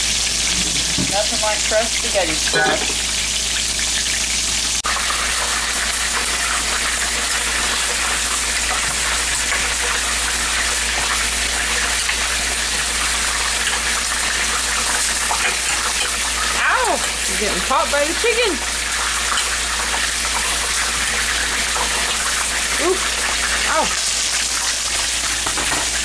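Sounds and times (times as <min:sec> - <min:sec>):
chicken frying in hot oil: 0:00.0 - 0:26.0.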